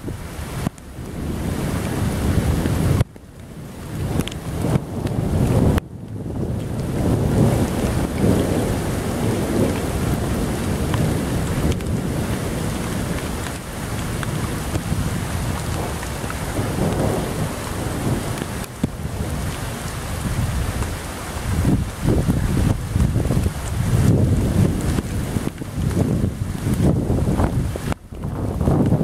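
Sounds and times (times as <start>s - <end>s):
rolling thunder: 0.0s - 29.0s
steady rain: 0.0s - 29.0s.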